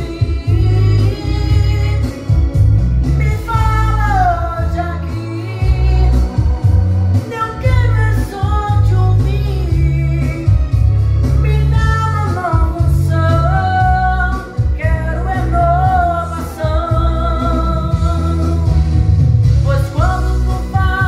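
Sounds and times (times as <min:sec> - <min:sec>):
backing track with bass line: 0:00.0 - 0:21.0
person singing a gospel hymn: 0:00.0 - 0:21.0.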